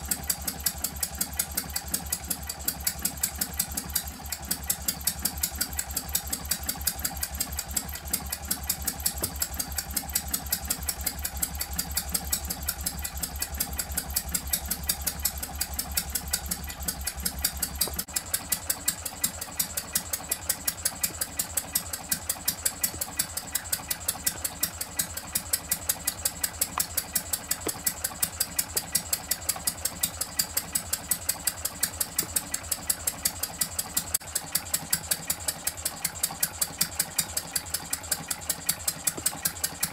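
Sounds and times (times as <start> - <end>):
engine running with sharp ticks: 0.0 - 39.9.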